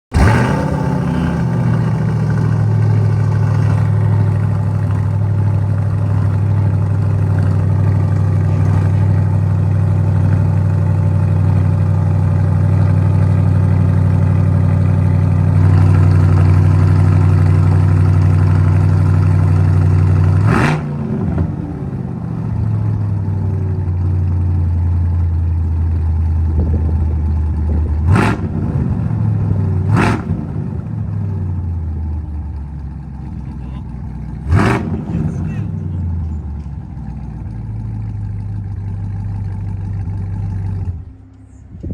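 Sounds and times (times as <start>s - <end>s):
car engine starting and idling: 0.1s - 41.9s
engine throttle blips: 0.1s - 41.9s.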